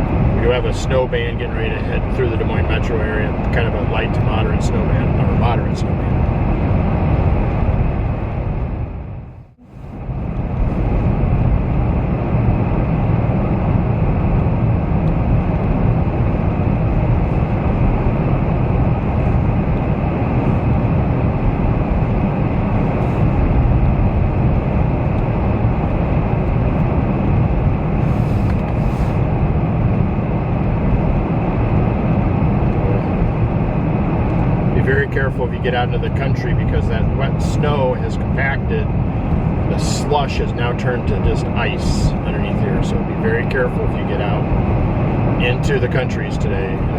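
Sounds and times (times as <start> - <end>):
car cabin road noise: 0.0 - 46.9
wind against vehicle: 0.0 - 46.9.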